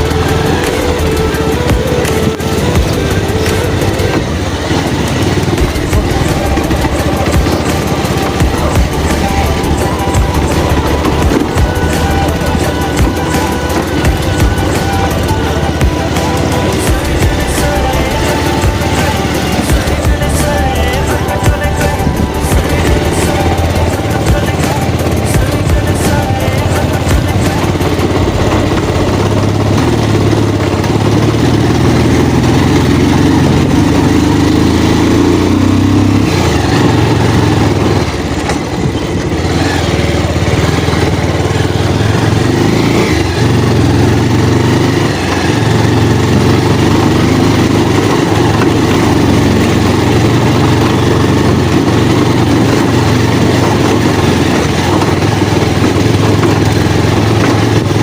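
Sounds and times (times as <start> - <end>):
motorcycle engine idling low: 0.0 - 58.0.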